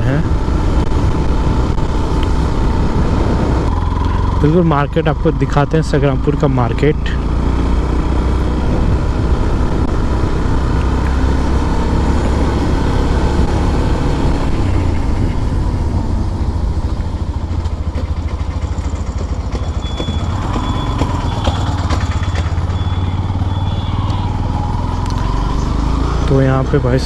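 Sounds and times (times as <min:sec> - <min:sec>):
motorcycle engine rumbling: 0:00.0 - 0:27.0
road noise: 0:00.0 - 0:27.0.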